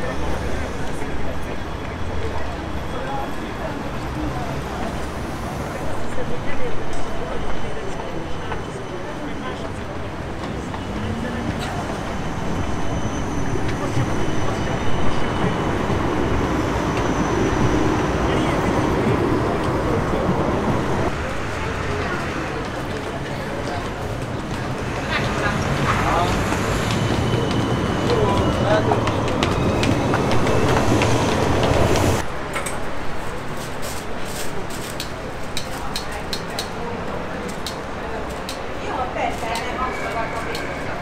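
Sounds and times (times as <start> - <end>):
shop ambience: 0.0 - 41.0
tram rumbling past: 0.0 - 41.0.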